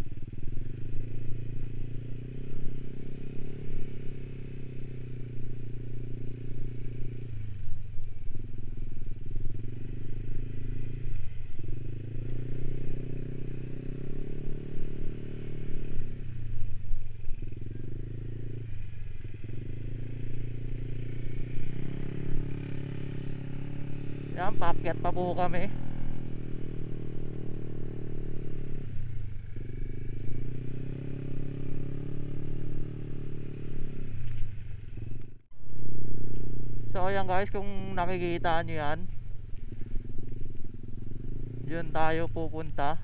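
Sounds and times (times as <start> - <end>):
scooter engine running: 0.0 - 35.4, 36.3 - 43.0.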